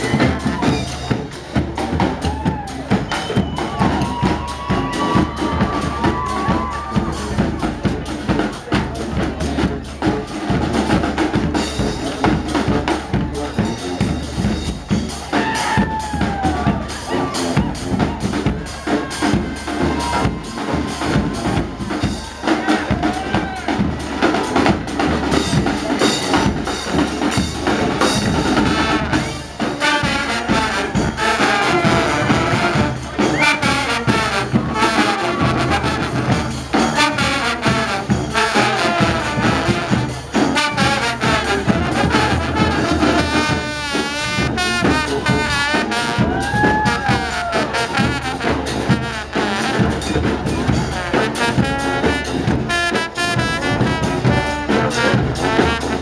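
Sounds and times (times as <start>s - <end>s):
drum beats: 0.0s - 56.0s
trumpets and trombones: 0.0s - 56.0s.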